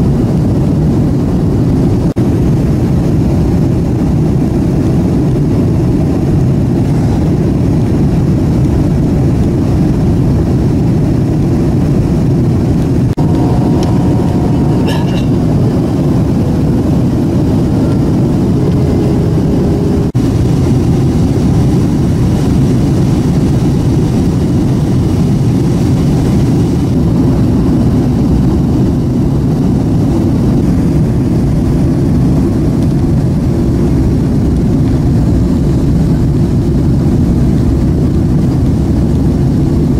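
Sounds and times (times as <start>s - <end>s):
jet airliner cabin roar: 0.0s - 39.9s.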